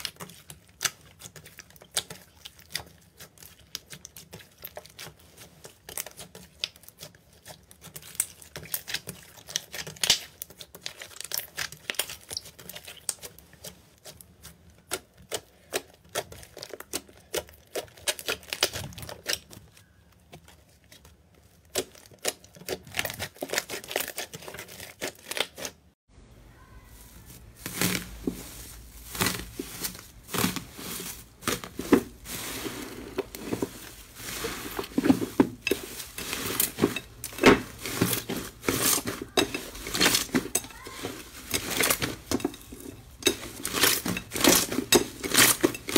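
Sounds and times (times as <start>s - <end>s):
slime crackling: 0.0s - 25.9s, 26.7s - 45.9s.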